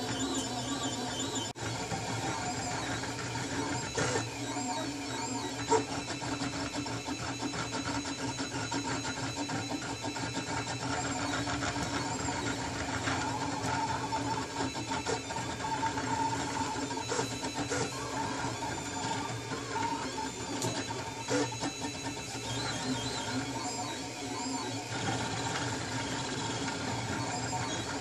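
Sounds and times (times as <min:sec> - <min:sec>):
stepper motors whining and ticking: 0:00.0 - 0:28.0.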